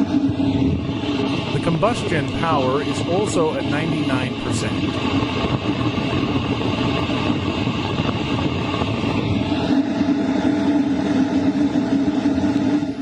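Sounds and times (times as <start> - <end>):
blower hum: 0.0 - 13.0
rush of airflow from heater duct: 0.0 - 13.0.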